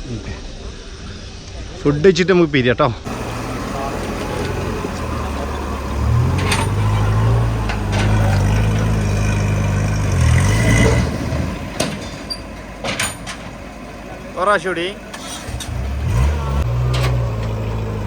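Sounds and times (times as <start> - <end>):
vehicle engine humming: 3.0 - 18.0.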